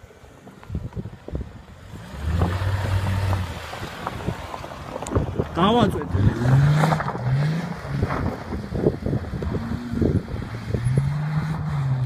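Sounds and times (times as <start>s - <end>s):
wind buffeting microphone: 0.5s - 12.0s
car engine accelerating: 1.8s - 12.0s.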